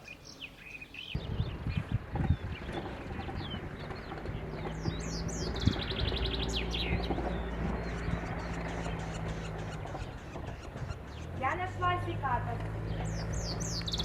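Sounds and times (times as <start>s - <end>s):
small songbirds chirping: 0.0s - 14.0s.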